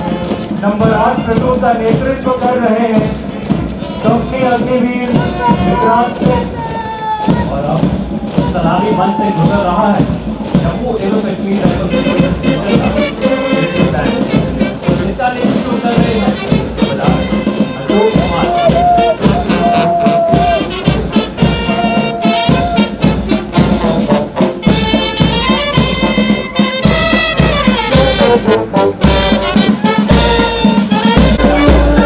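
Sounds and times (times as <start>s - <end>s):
brass band playing march: 0.0s - 32.0s.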